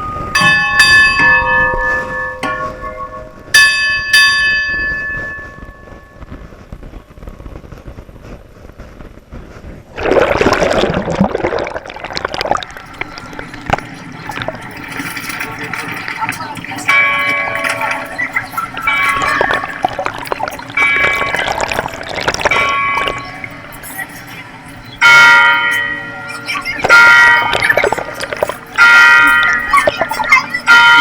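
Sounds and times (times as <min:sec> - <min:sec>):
bells ringing: 0:00.0 - 0:06.4, 0:12.5 - 0:31.0.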